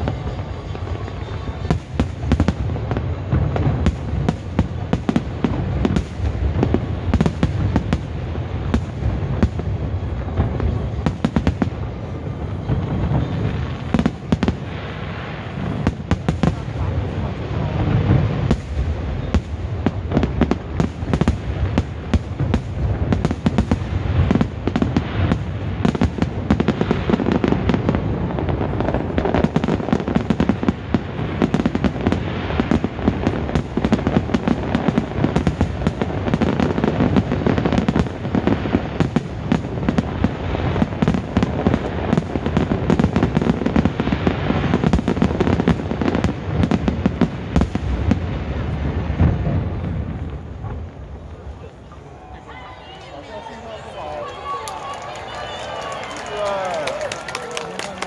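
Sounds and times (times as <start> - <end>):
fireworks bursts: 0.0 - 58.0.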